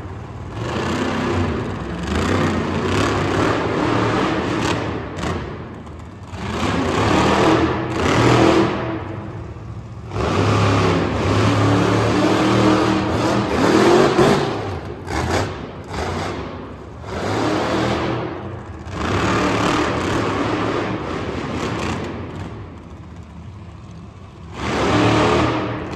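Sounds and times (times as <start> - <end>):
monster truck engine revving: 0.0 - 25.9.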